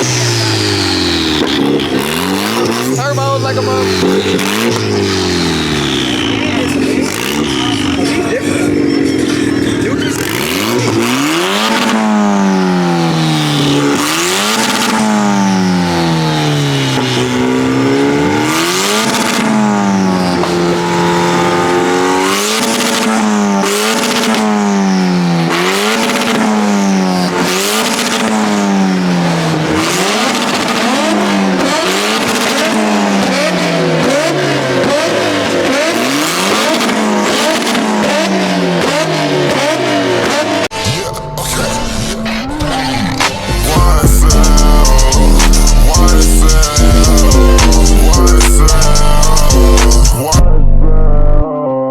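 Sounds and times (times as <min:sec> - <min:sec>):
cars driving past revving: 0:00.0 - 0:50.5.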